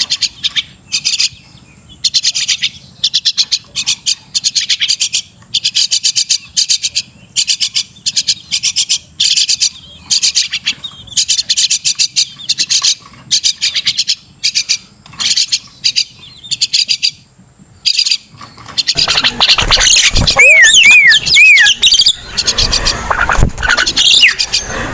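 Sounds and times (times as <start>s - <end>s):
bird scratchy chattering calls: 2.0s - 17.2s, 17.8s - 24.9s.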